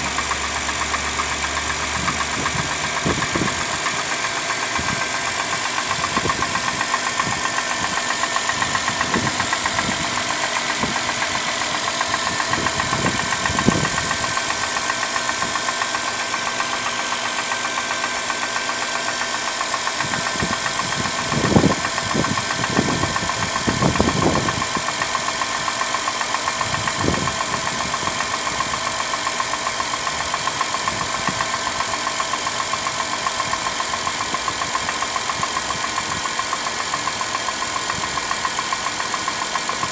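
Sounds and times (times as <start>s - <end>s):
car engine idling with knock: 0.0s - 39.9s.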